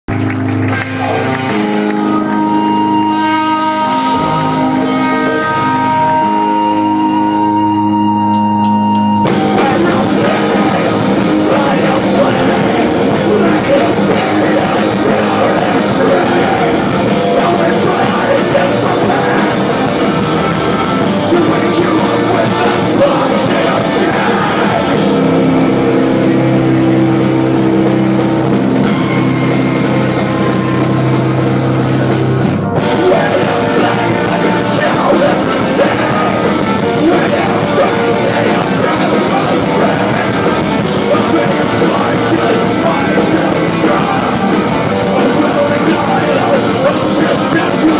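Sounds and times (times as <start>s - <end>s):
rock band playing live: 0.1s - 47.9s.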